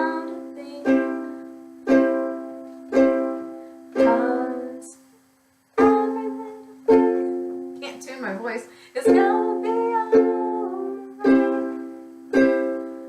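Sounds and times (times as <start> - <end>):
ukulele chords strummed slowly: 0.0 - 5.0, 5.8 - 7.8, 9.0 - 13.0.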